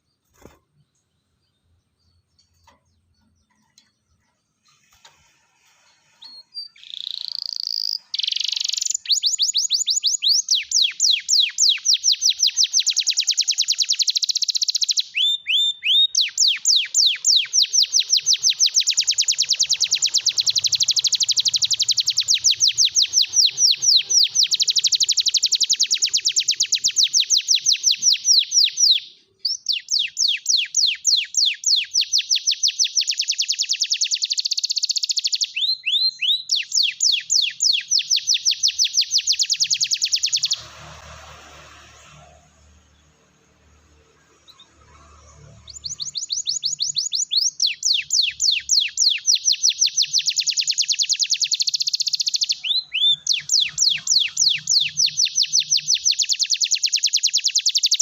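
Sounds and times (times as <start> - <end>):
canary singing trills: 5.7 - 43.2, 44.0 - 58.0.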